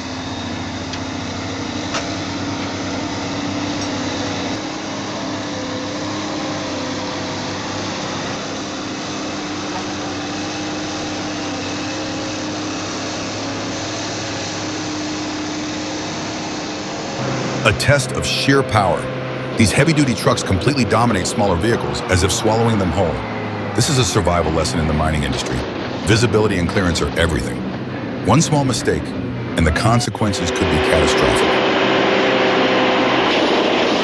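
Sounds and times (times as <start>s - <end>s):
constant mechanical whine: 0.0s - 34.0s
heavy vehicle engine running: 0.0s - 34.0s.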